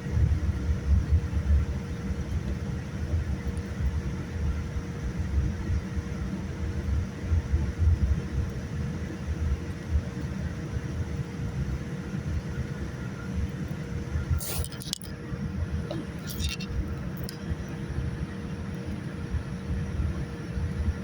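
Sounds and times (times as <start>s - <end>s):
aircraft cabin rumble: 0.0s - 21.0s
faint steady hum: 0.0s - 21.0s.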